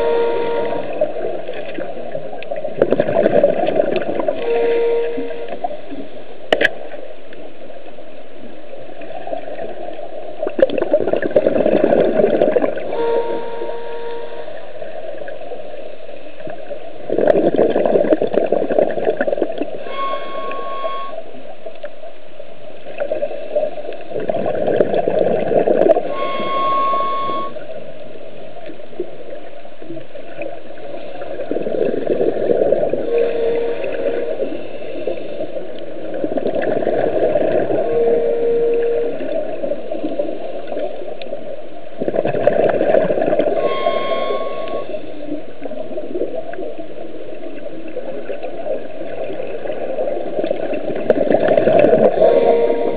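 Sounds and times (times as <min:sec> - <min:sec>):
exhaled bubbles rushing: 0:00.0 - 0:06.2, 0:08.8 - 0:15.5, 0:16.4 - 0:21.1, 0:22.8 - 0:27.6, 0:29.0 - 0:52.9.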